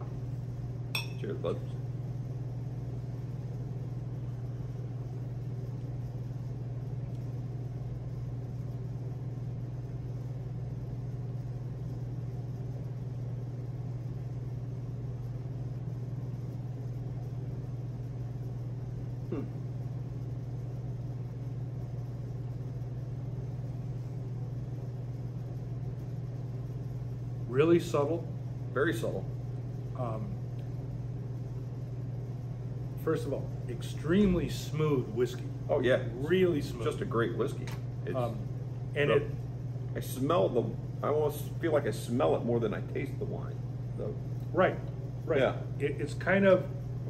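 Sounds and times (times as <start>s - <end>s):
low room hum: 0.0s - 47.0s.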